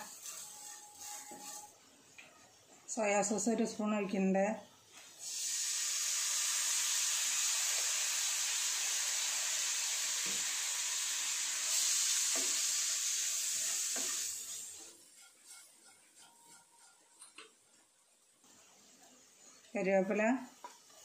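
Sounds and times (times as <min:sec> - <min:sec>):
masala sizzling in a pan: 0:00.0 - 0:03.8, 0:04.9 - 0:21.0.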